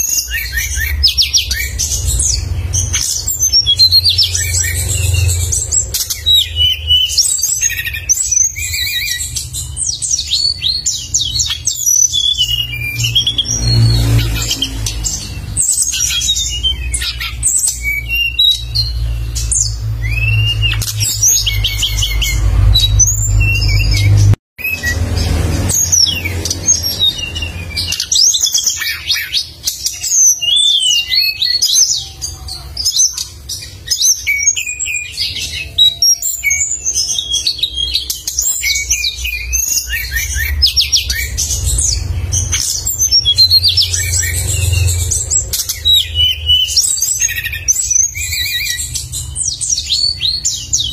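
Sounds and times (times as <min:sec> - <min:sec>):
songbird chirping and trilling: 0:00.0 - 0:50.9.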